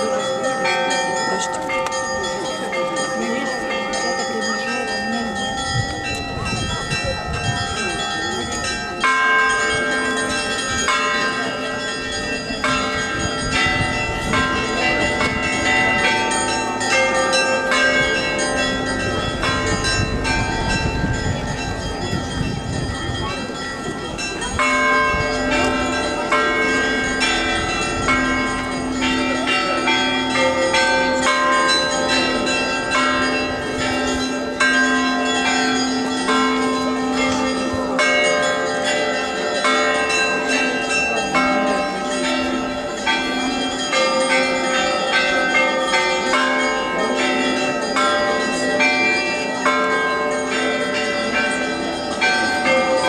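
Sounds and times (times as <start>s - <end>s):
higher church bells ringing: 0.0s - 53.0s
low bell tone: 0.0s - 53.0s.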